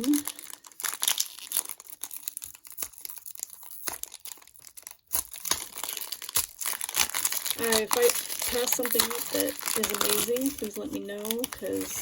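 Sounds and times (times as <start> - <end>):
plastic wrapper tearing and crinkling: 0.0 - 12.0.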